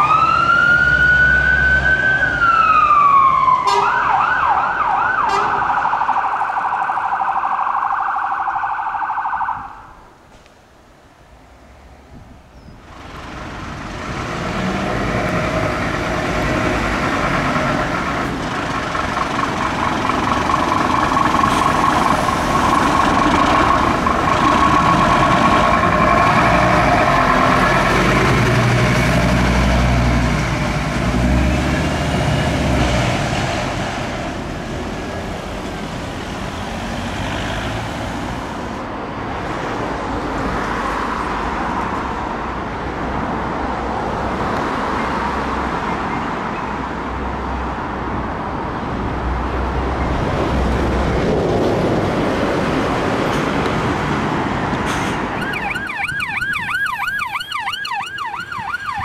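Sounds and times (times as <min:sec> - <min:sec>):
fire engine driving past: 0:00.0 - 0:10.0, 0:12.8 - 0:59.0
road traffic: 0:00.0 - 0:59.0.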